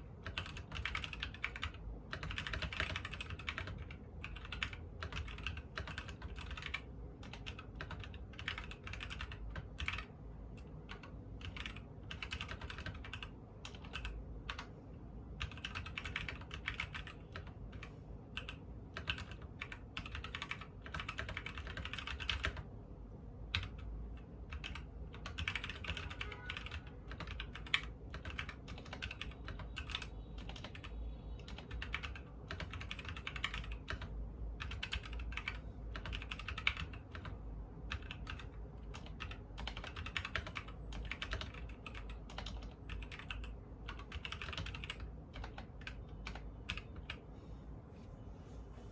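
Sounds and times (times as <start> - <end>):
mechanical keyboard typing: 0.0 - 14.7, 15.4 - 22.7, 23.4 - 47.3.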